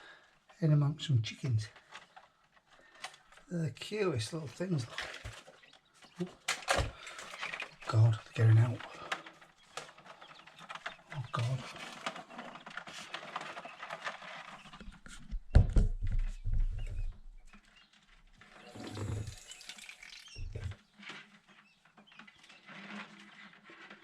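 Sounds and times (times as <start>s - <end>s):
quail chicks peeping: 4.1s - 24.0s.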